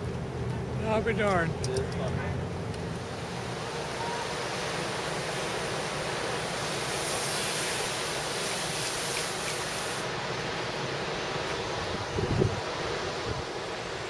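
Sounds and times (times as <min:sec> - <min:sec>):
ocean surf: 0:00.0 - 0:14.0
wind: 0:00.0 - 0:14.0.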